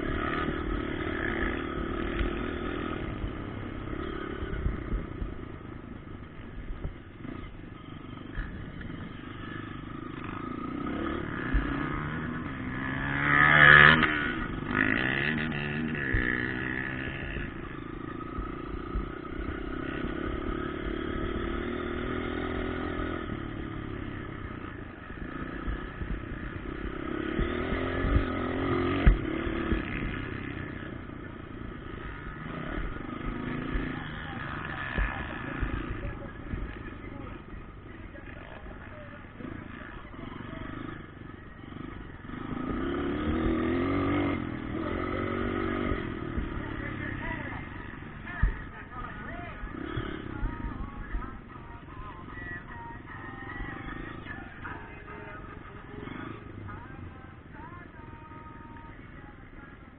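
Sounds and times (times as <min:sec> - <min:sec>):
motocross bike engines: 0:00.0 - 0:59.9.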